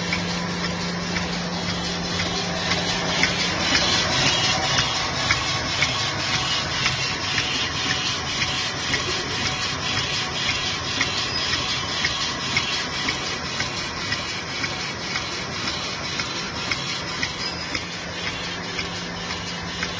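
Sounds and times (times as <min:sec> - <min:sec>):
filling machine mechanical clatter: 0:00.0 - 0:19.9.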